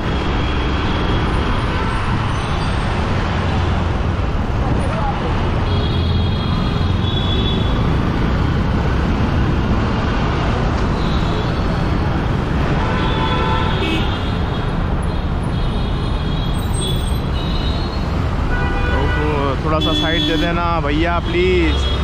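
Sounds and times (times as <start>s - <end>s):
surrounding traffic: 0.0s - 22.0s
wind and road noise: 0.0s - 22.0s.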